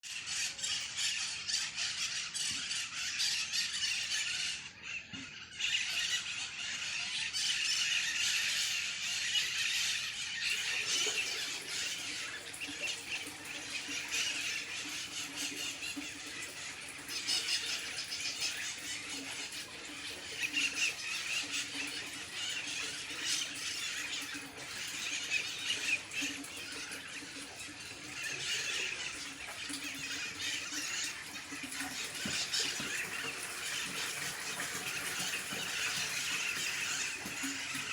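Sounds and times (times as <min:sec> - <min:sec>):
parrots screeching: 0:00.1 - 0:37.9.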